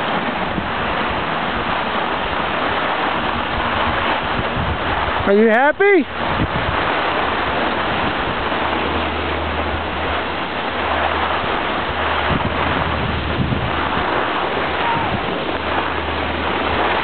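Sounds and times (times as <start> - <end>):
skis gliding over snow: 0.0 - 17.0
wind buffeting microphone: 0.0 - 17.0.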